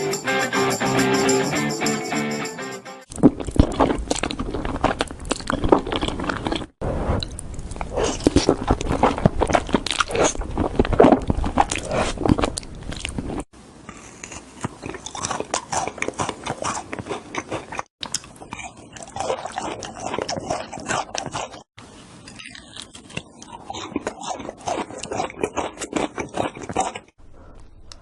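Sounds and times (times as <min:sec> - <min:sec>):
chewing crunchy food: 0:03.1 - 0:27.2.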